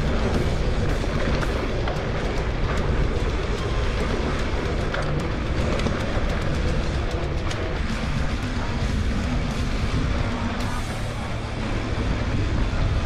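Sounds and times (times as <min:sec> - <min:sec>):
bike tyre noise: 0:00.0 - 0:13.0
wind rumble on microphone: 0:00.0 - 0:13.0.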